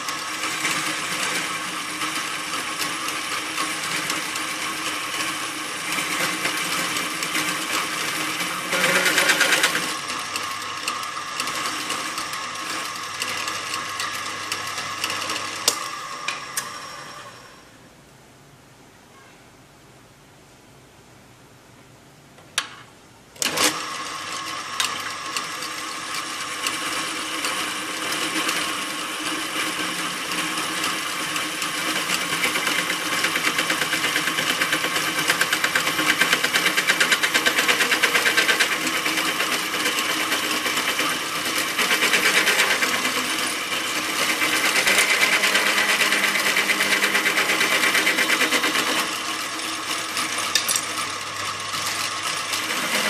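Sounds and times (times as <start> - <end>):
drill bit cutting chatter: 0.0 - 16.7, 23.7 - 53.0
drill press motor hum: 0.0 - 17.7, 23.4 - 53.0.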